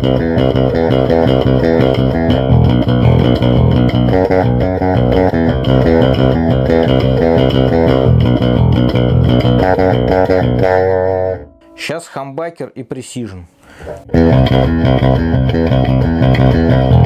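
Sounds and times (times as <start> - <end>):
plucked electric bass notes: 0.0 - 12.4, 13.7 - 17.0.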